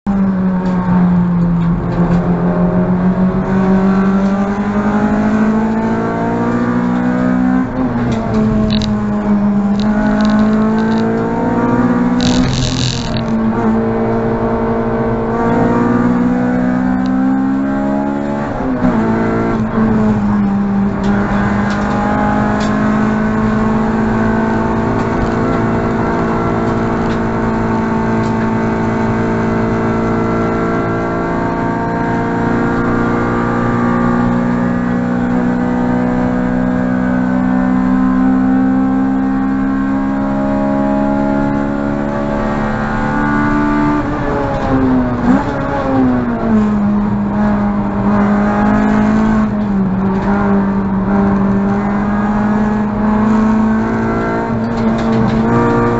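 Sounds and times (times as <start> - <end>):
car engine revving: 0.1 - 55.9.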